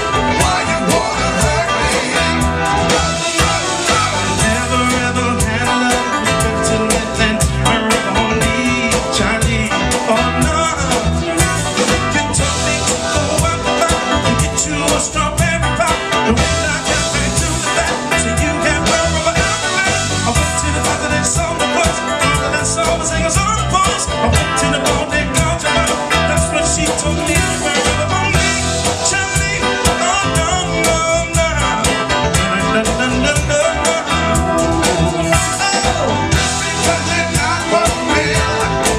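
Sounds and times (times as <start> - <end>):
drums: 0.0 - 38.9
electric guitar: 0.0 - 38.9
person singing: 0.0 - 38.9.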